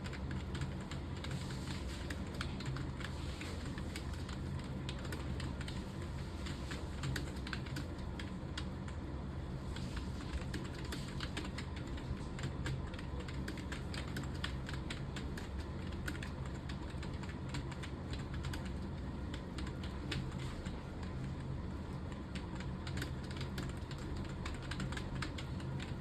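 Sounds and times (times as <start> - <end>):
fast typing on keyboard: 0.0 - 26.0
steady low hum: 0.0 - 26.0.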